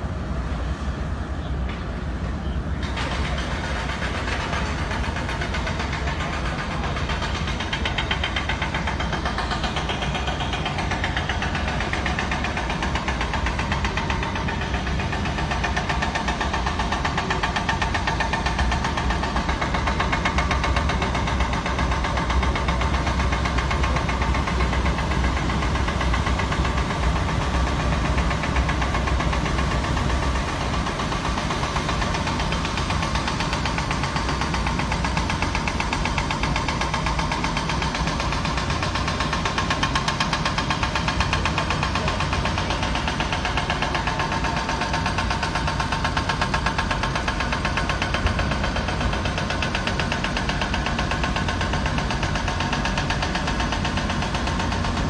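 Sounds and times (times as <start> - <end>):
ship diesel engines droning: 0.0 - 55.0.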